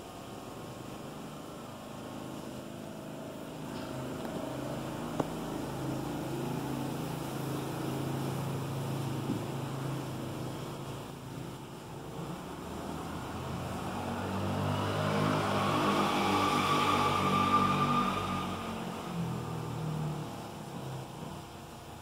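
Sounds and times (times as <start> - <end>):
distant engine drone: 0.0 - 21.9.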